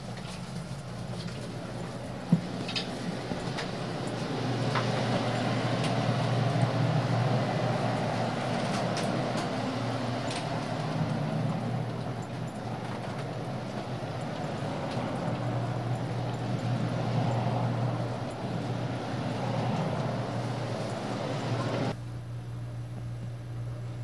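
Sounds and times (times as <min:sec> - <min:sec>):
train carriage rumble and hum: 0:00.0 - 0:24.0.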